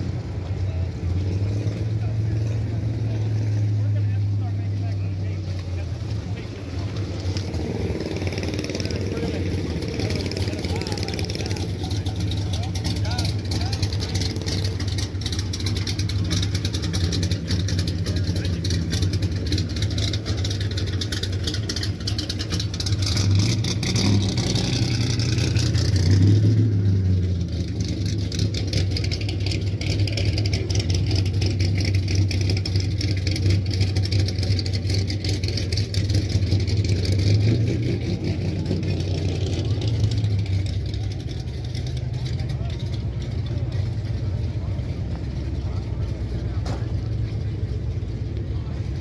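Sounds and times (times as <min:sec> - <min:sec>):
car engine rumbling and revving: 0:00.0 - 0:49.0.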